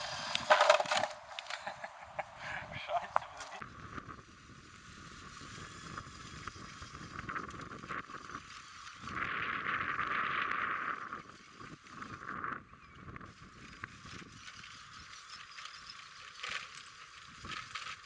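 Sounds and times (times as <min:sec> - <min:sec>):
electric motor and gearbox running: 0:00.0 - 0:01.7, 0:04.2 - 0:12.6, 0:13.2 - 0:18.0.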